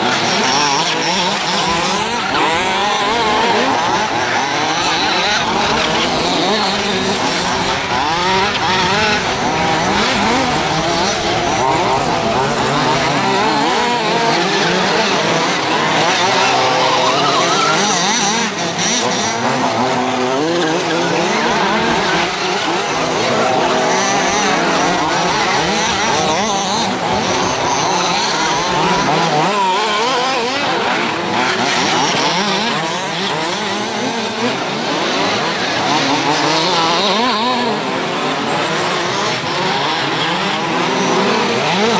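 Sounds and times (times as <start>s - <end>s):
small two-stroke engines revving: 0.0s - 41.9s.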